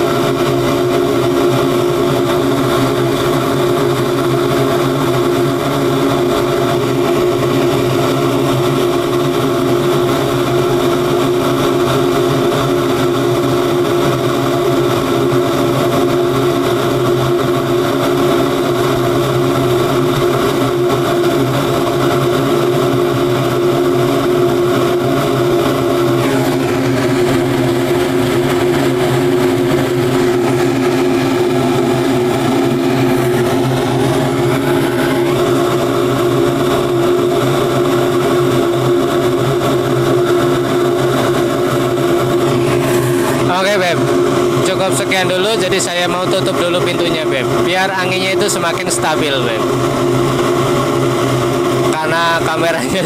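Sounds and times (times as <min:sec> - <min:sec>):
furnace burner and blower drone: 0:00.0 - 0:53.0.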